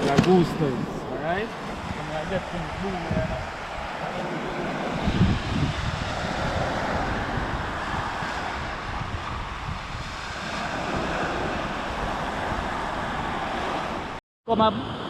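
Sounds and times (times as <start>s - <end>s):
ocean surf washing in: 0.0s - 15.0s
wind buffeting microphone: 0.0s - 15.0s.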